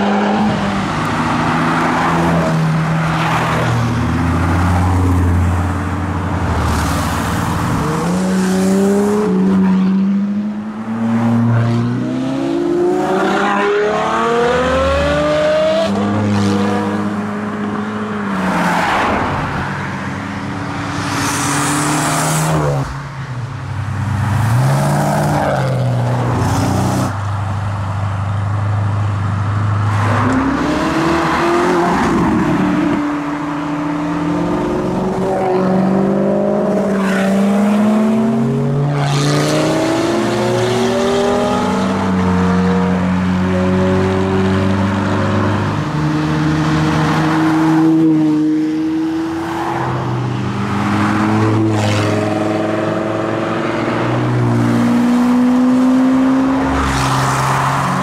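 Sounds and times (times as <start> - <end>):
exhaust and tyre rush: 0.0 - 58.0
sports car engines accelerating: 0.0 - 58.0.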